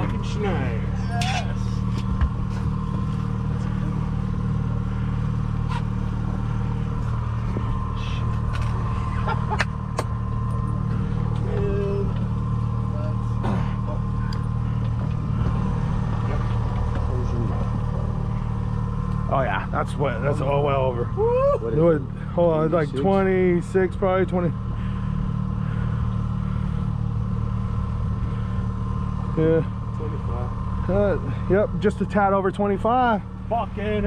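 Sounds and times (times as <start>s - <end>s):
outboard engine running: 0.0s - 34.0s.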